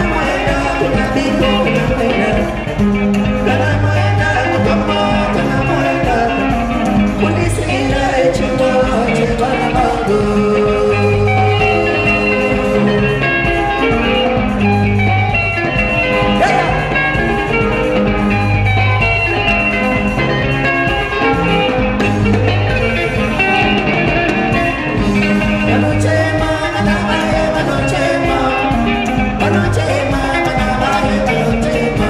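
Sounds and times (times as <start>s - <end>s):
interlocking electric guitars: 0.0s - 32.0s
repeating bass line: 0.0s - 32.0s
steady drum beat: 0.0s - 32.0s.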